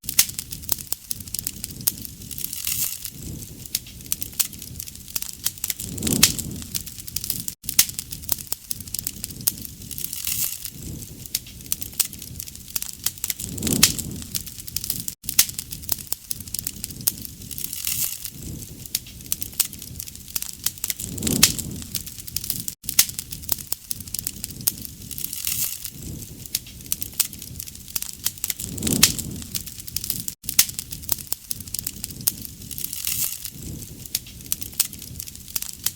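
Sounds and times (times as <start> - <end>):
campfire crackling and popping: 0.0 - 35.9
rushing of flames: 0.0 - 35.9.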